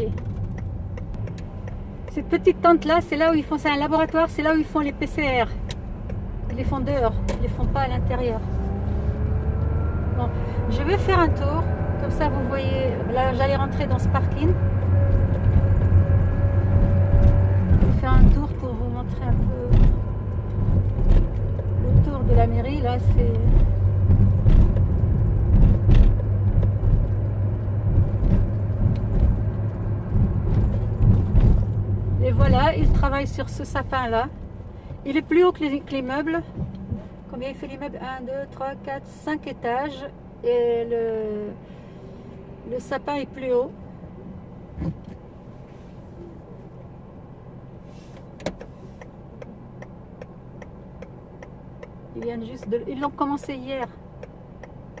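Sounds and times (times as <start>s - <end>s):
turn signal ticking: 0.0s - 38.0s, 48.2s - 55.0s
car engine and road noise: 0.0s - 55.0s.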